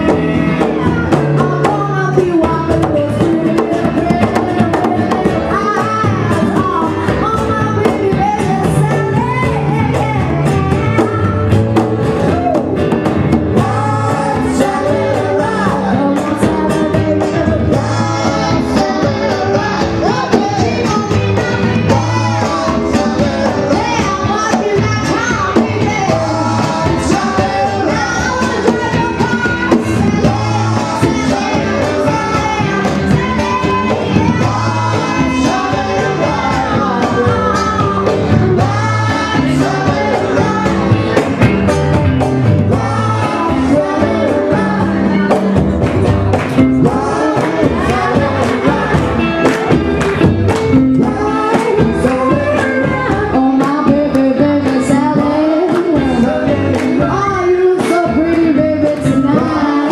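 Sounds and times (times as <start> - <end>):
man and woman singing together: 0.0 - 59.9
strummed guitars: 0.0 - 59.9.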